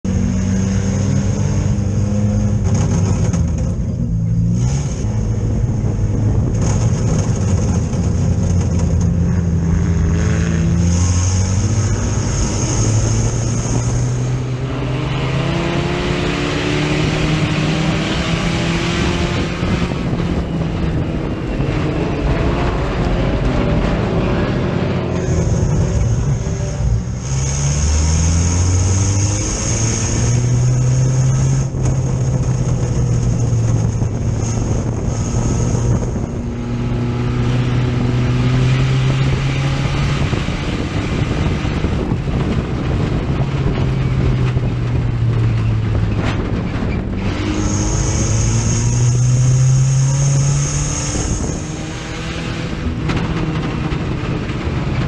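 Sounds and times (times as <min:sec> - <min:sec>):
race car engine revving: 0:00.0 - 0:55.0
steady rushing noise: 0:00.0 - 0:55.0.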